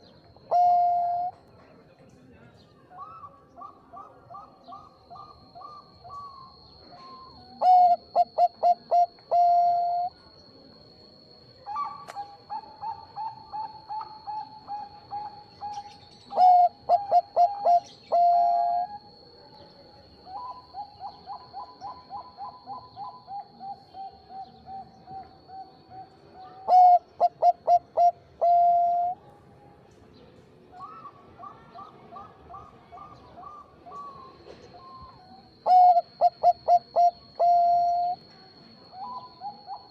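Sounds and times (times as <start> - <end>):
dove cooing: 0.0 - 1.4, 3.0 - 10.1, 11.3 - 19.4, 20.2 - 29.2, 30.8 - 39.9.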